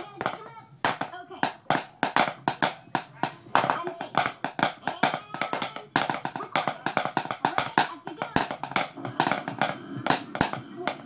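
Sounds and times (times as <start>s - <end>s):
drumsticks tapping hard surface: 0.0s - 11.0s.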